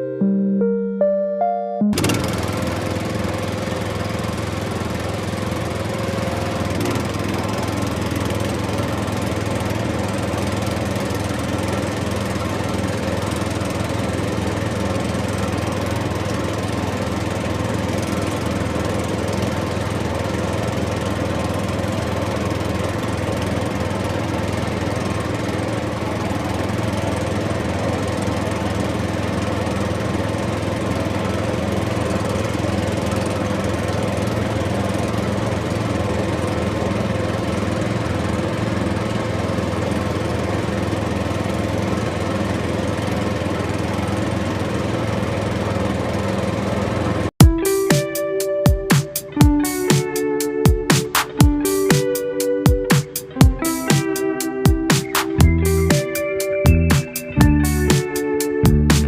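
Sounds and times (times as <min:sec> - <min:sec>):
small engine humming: 0:01.9 - 0:59.0.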